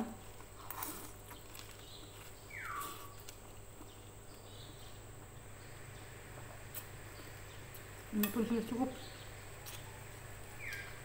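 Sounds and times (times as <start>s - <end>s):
quiet eating: 0.0s - 11.0s
steady low hum: 0.0s - 11.0s.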